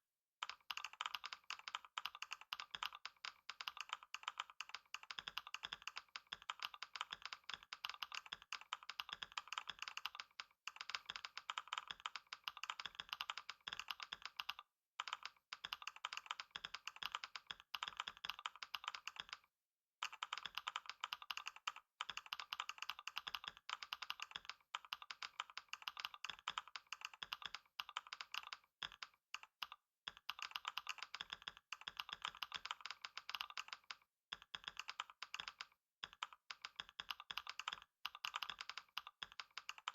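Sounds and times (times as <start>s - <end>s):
fast typing on keyboard: 0.4s - 39.9s.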